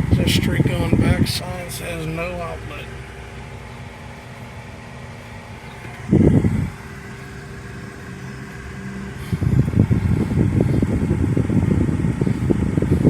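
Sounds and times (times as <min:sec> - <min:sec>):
car engine and road hum: 0:00.0 - 0:13.0
loud low rumble: 0:00.0 - 0:13.0
uneven rumbling: 0:00.0 - 0:13.0.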